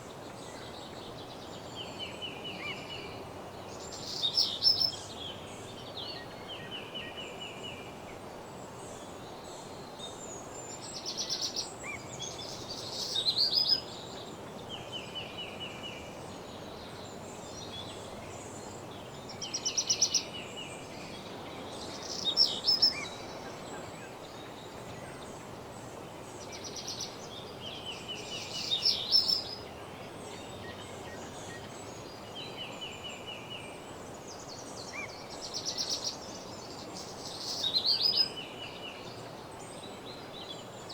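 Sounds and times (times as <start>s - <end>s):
songbirds singing trills: 0.0s - 40.9s
steady background hiss: 0.0s - 40.9s.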